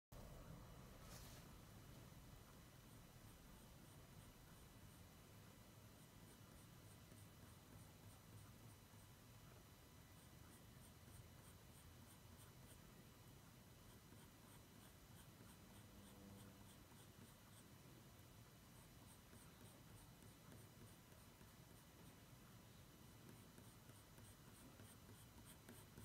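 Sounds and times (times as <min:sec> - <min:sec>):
pencil scratching on paper: 0:02.8 - 0:05.0, 0:06.0 - 0:26.0.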